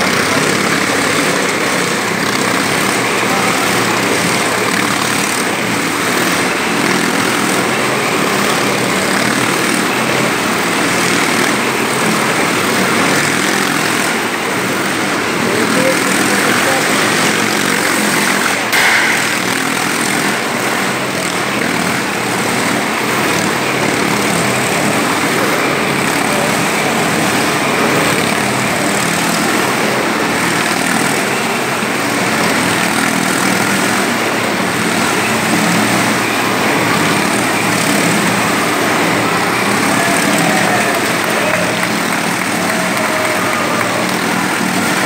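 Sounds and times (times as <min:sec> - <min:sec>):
motorcycle engine running loudly: 0:00.0 - 0:45.0.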